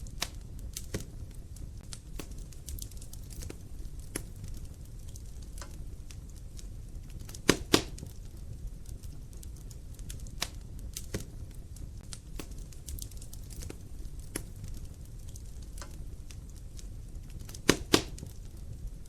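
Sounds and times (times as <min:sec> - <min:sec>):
logs crackling and popping: 0:00.0 - 0:19.0
low rumble of flames: 0:00.0 - 0:19.0.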